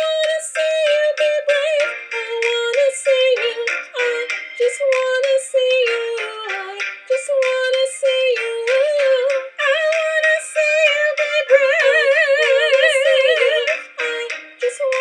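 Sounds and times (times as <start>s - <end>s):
backing music: 0.0s - 15.0s
woman singing: 0.0s - 15.0s.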